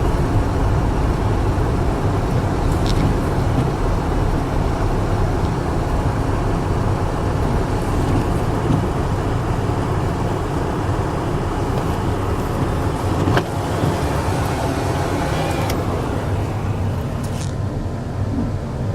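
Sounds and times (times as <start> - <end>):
car engine and road noise: 0.0 - 18.9.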